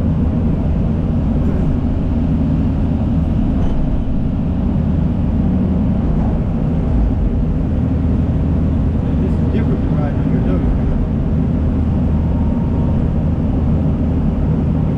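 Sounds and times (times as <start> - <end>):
heavy machinery diesel engines running: 0.0 - 14.9.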